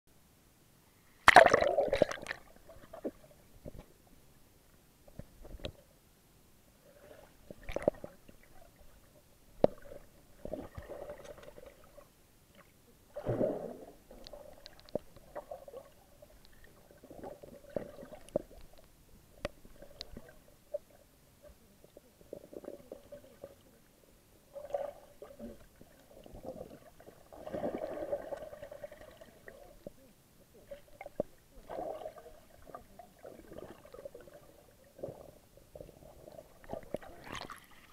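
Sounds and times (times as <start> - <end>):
muffled underwater sloshing: 6.9 - 37.9.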